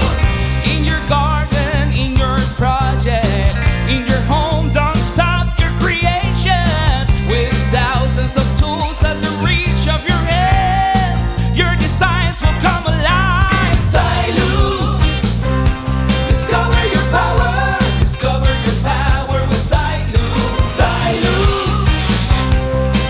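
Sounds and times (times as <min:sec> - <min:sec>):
heavy bass line: 0:00.0 - 0:23.0
person singing: 0:00.0 - 0:23.0.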